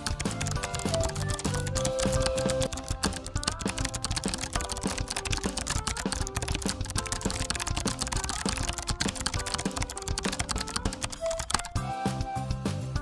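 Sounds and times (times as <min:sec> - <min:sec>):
keyboard typing clicks: 0:00.0 - 0:11.8
background music with held notes: 0:00.0 - 0:13.0.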